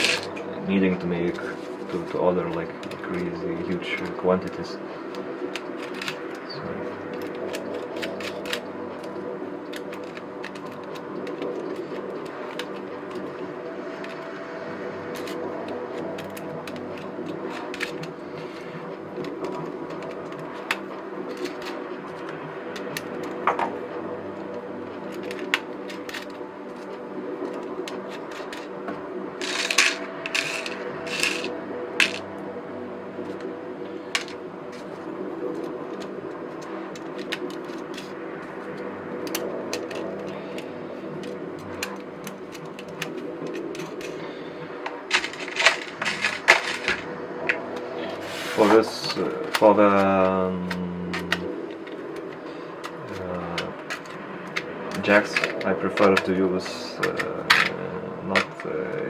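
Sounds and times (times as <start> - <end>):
small parts clicking and tapping: 0.0 - 14.4, 15.0 - 32.4, 34.1 - 47.8, 48.6 - 58.8
steady background hum: 0.0 - 59.0.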